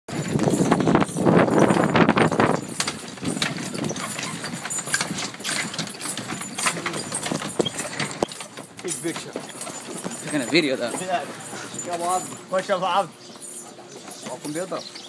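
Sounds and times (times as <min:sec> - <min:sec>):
horse hooves clip-clopping on dirt: 0:00.1 - 0:15.0.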